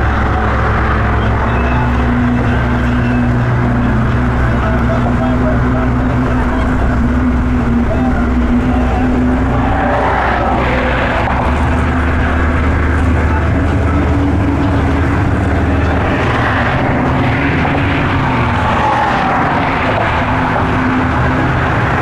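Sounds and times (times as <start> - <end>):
motorboat engine running: 0.0 - 22.0
water rushing: 0.0 - 22.0.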